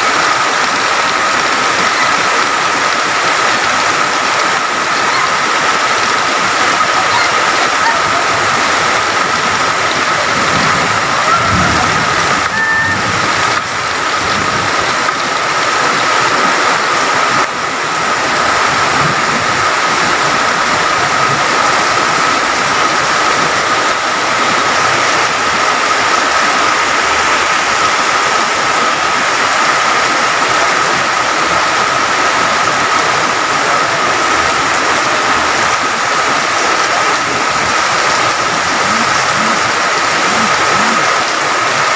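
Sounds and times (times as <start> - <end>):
heavy rain pouring: 0.0 - 41.9
rushing water: 0.0 - 41.9.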